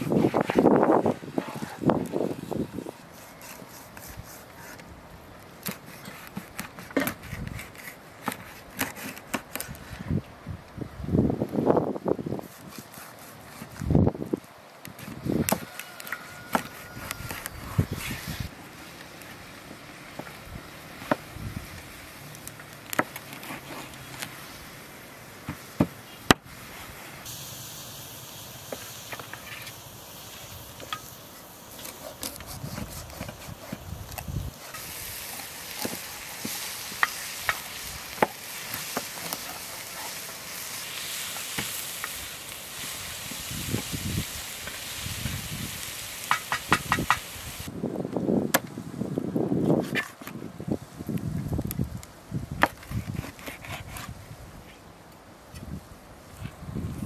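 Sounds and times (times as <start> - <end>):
faint outdoor hiss: 0.0 - 57.0.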